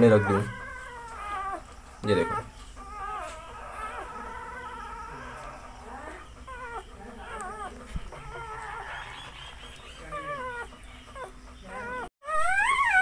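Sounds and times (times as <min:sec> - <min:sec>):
puppies squeaking and whimpering: 0:00.0 - 0:13.0.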